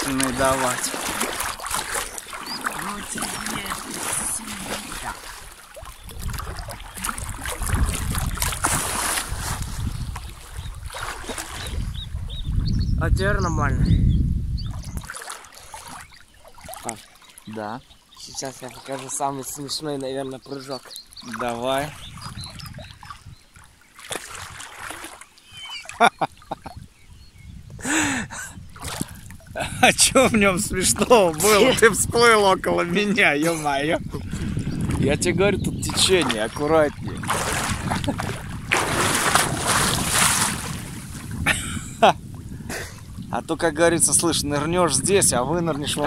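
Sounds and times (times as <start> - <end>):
river water splashing: 0.0 - 12.4, 14.7 - 26.8, 28.6 - 43.3
wind buffeting microphone: 0.0 - 20.3, 20.9 - 46.0.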